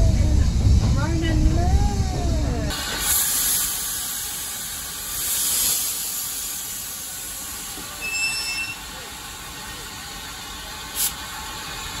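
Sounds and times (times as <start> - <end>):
locomotive steam hissing: 2.4 - 12.0.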